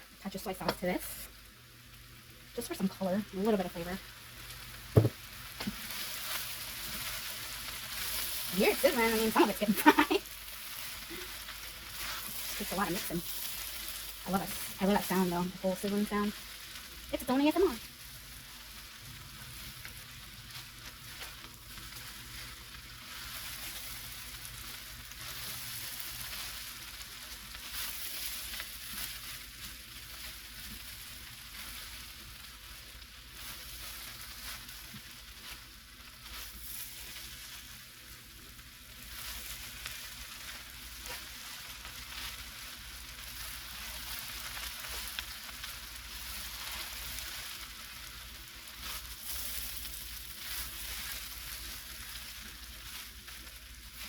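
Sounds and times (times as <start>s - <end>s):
rice sizzling in a pot: 0.0s - 54.0s.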